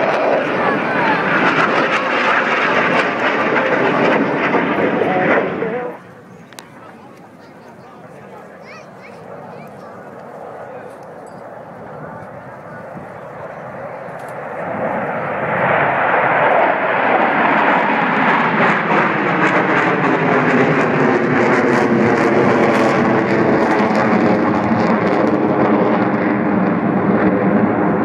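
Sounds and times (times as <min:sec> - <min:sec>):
jet engine roar overhead: 0:00.0 - 0:28.0.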